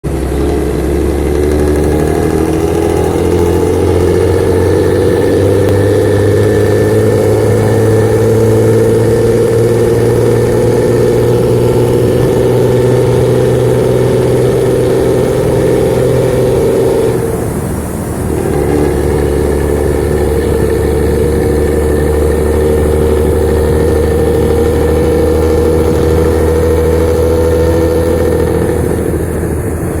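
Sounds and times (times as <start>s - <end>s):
engine with deep exhaust growl: 0.0s - 30.0s.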